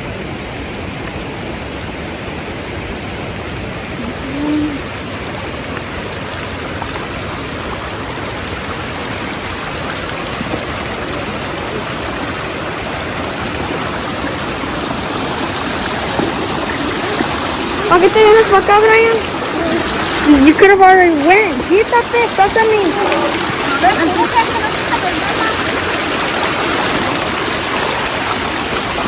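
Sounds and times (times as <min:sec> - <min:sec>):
river flowing over rocks: 0:00.0 - 0:29.0.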